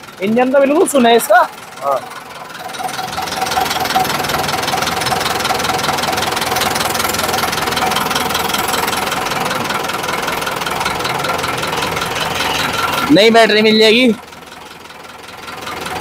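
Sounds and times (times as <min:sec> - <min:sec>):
diesel tractor engine clatter: 0:00.0 - 0:16.0.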